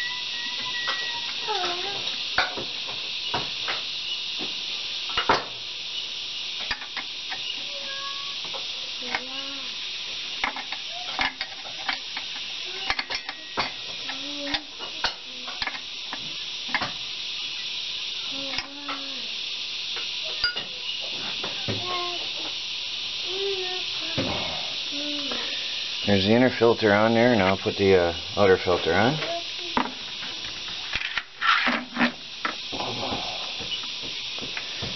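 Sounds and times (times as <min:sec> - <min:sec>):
steady high hiss: 0:00.0 - 0:34.9.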